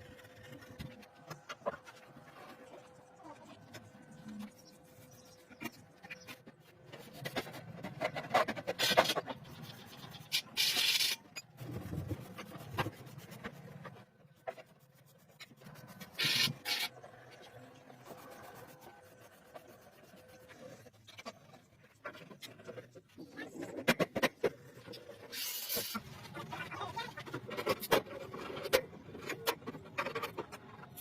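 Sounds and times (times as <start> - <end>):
rubbing and scraping: 0.0 - 31.0.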